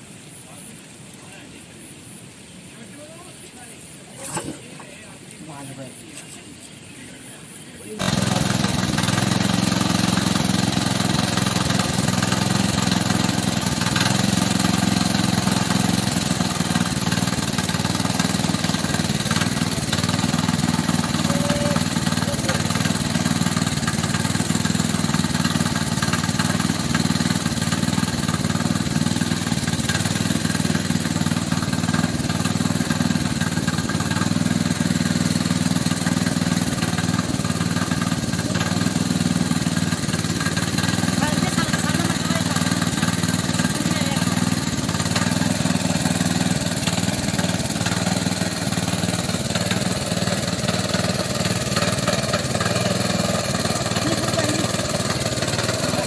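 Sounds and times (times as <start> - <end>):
small petrol engine running: 7.9 - 56.0.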